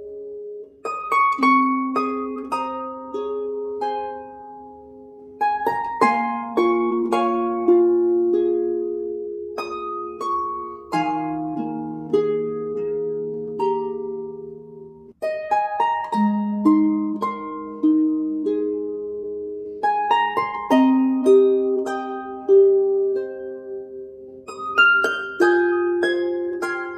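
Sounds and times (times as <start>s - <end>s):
slow melody of plucked notes: 0.0s - 26.9s.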